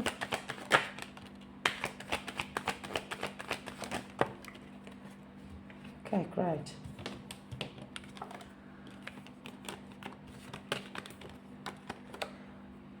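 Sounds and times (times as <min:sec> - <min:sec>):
cards being shuffled: 0:00.0 - 0:05.9, 0:06.9 - 0:12.3
faint steady hum: 0:00.0 - 0:13.0.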